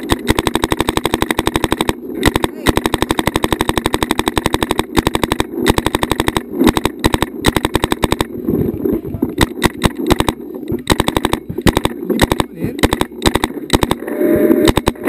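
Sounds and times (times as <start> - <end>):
paintball marker firing: 0.0 - 8.4, 9.3 - 14.0, 14.6 - 15.0.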